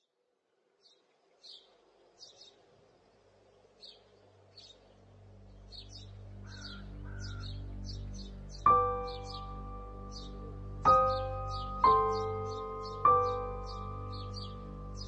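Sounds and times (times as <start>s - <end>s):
birds chirping: 0.7s - 15.0s.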